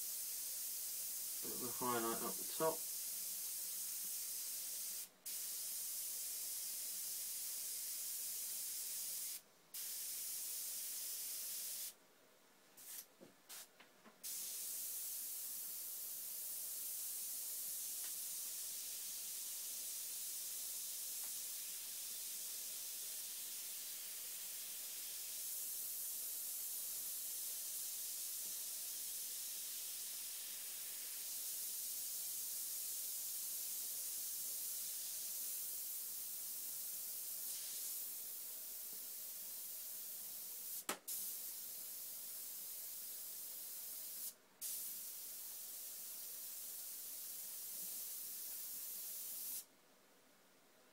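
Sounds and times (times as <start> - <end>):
airbrush spraying hiss: 0.0 - 12.0, 12.8 - 49.7.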